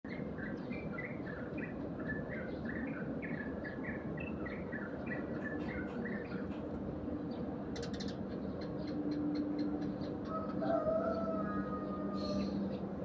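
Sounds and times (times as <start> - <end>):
sparrows chirping: 0.1 - 13.0.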